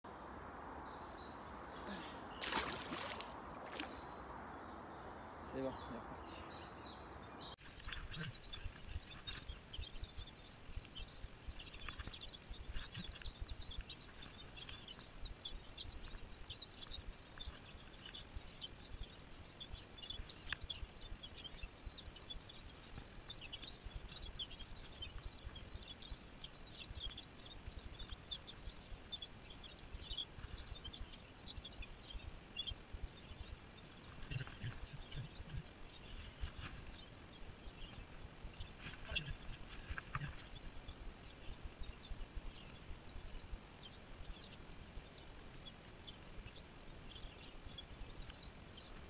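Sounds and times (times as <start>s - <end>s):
birds chirping and singing: 0.1s - 49.0s.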